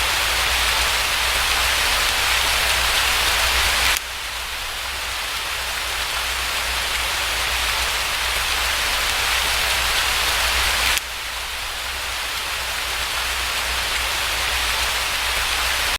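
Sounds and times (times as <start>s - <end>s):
rain hiss: 0.0s - 15.9s.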